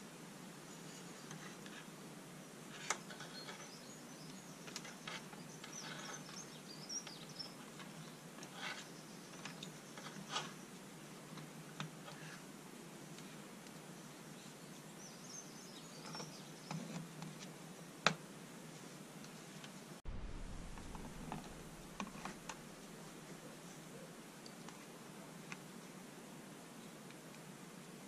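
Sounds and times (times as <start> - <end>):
steady low hiss: 0.0 - 28.0.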